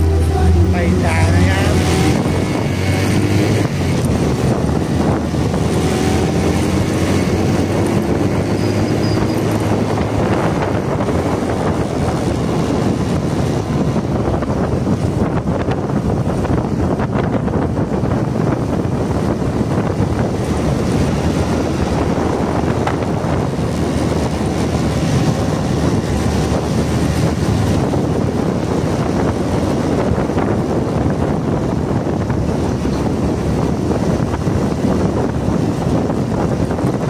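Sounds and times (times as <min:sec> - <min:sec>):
motorcycle road noise: 0:00.0 - 0:37.0
wind rush: 0:00.0 - 0:37.0.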